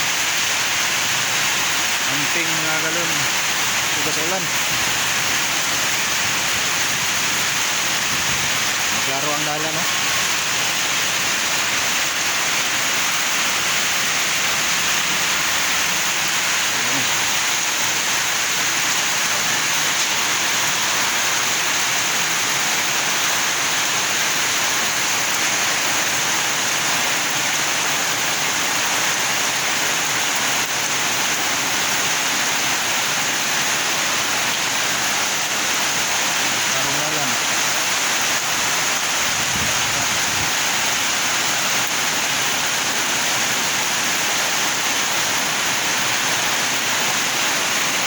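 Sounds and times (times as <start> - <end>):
heavy rain pouring: 0.0 - 48.0.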